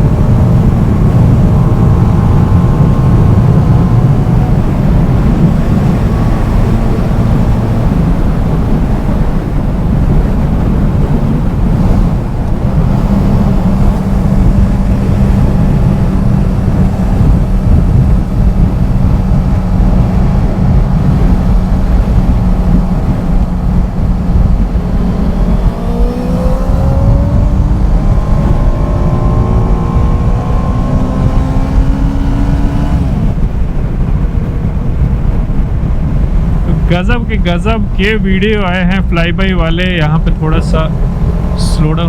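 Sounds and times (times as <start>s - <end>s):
motorcycle engine: 0.0s - 42.0s
wind rush on microphone: 0.0s - 42.0s.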